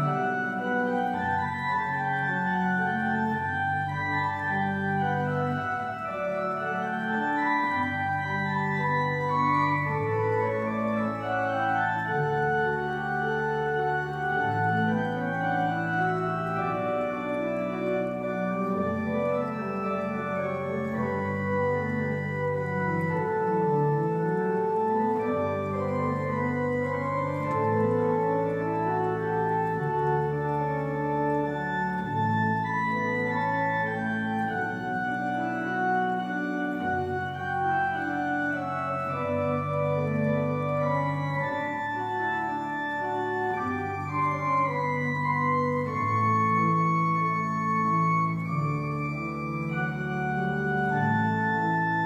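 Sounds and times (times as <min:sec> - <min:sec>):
deep organ pedal bass: 0:00.0 - 0:52.0
organ chords: 0:00.0 - 0:52.0.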